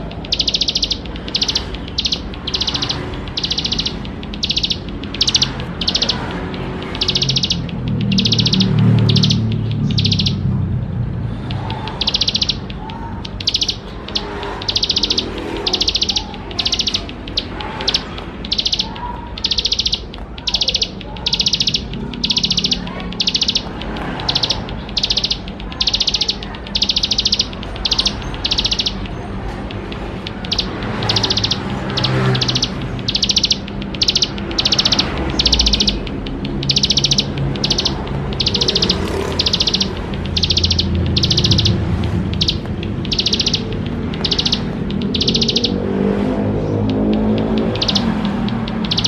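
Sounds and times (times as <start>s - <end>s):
background murmur: 0.0s - 49.0s
bird singing buzzy trills: 0.0s - 49.0s.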